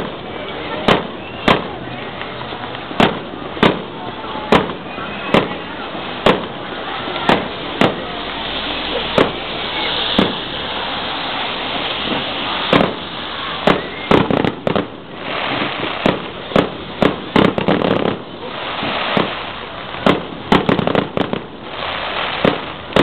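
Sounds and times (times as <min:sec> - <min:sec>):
fireworks bangs: 0:00.0 - 0:23.0
steady background hiss: 0:00.0 - 0:23.0.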